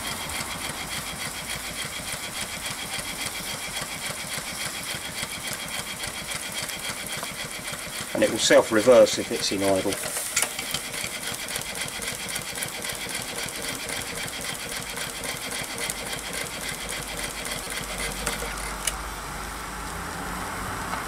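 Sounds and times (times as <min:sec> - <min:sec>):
steam engine rapid beat: 0:00.0 - 0:18.7.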